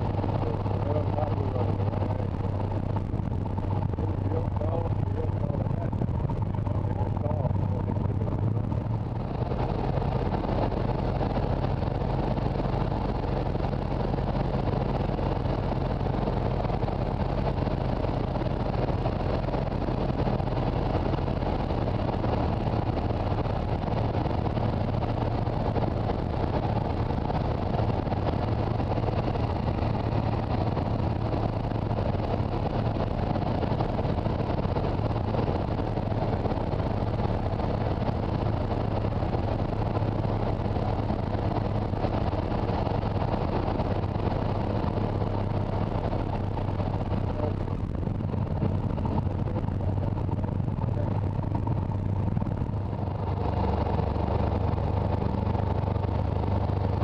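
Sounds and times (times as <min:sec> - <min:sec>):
aircraft engine and propeller drone: 0:00.0 - 0:57.0
wind rushing over airframe: 0:00.0 - 0:57.0.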